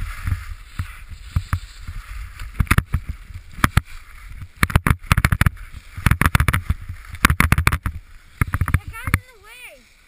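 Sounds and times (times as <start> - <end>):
skis scraping over snow: 0.0 - 10.0.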